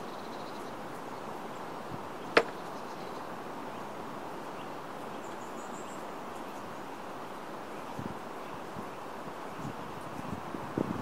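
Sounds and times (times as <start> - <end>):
rain: 0.0 - 11.0
wind: 0.0 - 11.0.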